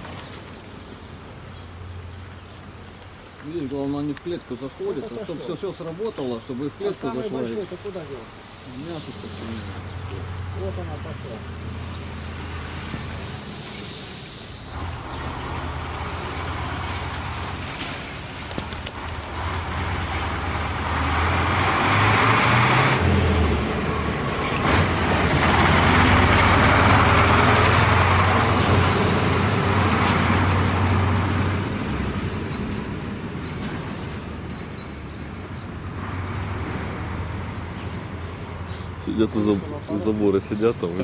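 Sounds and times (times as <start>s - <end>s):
vehicles passing on street: 0.0s - 41.0s.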